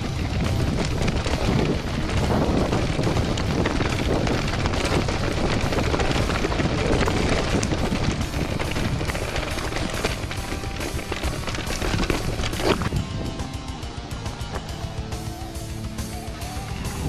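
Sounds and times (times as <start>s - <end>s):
wind on microphone: 0.0s - 14.1s
bike tyres and suspension rattling: 0.0s - 17.0s
wheels knocking on stones: 0.0s - 17.0s.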